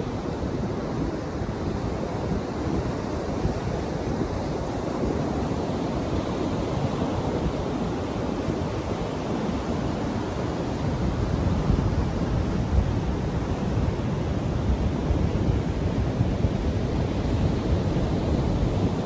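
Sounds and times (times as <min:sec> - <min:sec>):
ocean surf breaking on beach: 0:00.0 - 0:19.0
wind buffeting microphone: 0:00.0 - 0:19.0.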